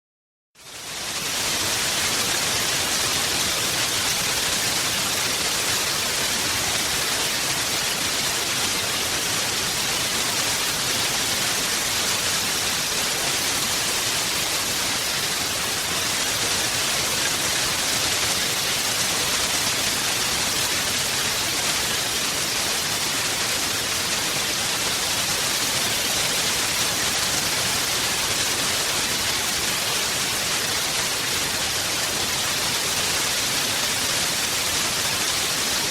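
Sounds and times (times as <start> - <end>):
heavy rain: 0.6 - 35.9.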